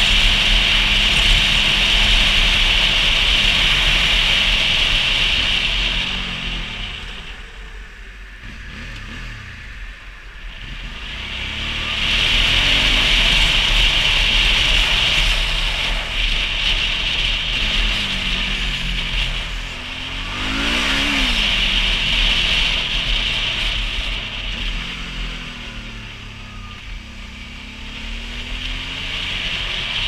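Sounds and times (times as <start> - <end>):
motorcycle engine: 0.0 - 30.0
rushing wind: 0.0 - 30.0.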